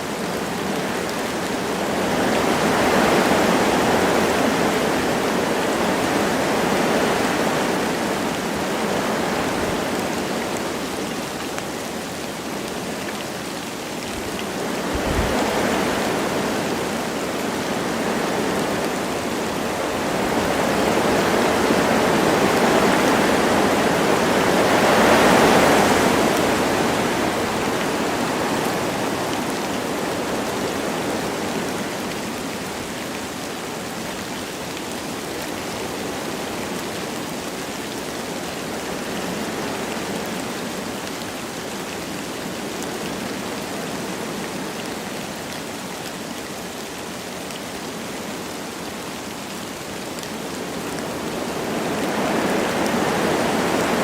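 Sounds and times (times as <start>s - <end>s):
light rain: 0.0s - 54.0s
wind through trees: 0.0s - 54.0s.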